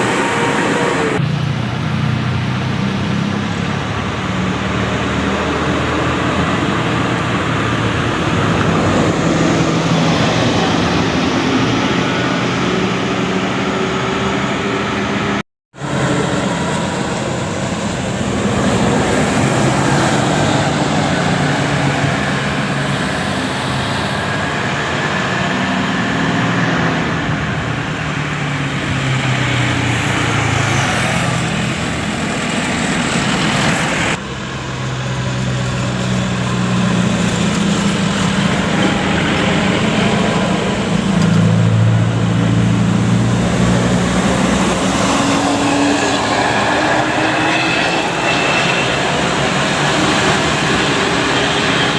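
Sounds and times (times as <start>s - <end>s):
bus and truck engines: 0.0s - 51.9s
road noise: 0.0s - 51.9s.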